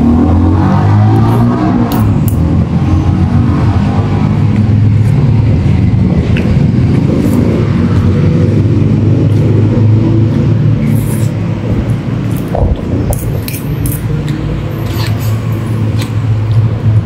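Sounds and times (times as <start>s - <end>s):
vehicle engine running: 1.2s - 17.0s.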